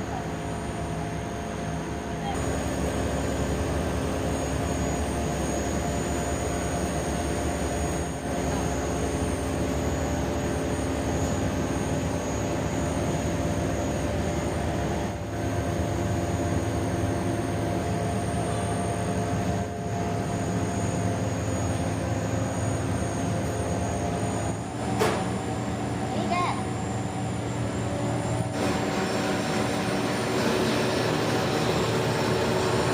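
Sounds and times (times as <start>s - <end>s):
factory machinery humming: 0.0s - 32.9s.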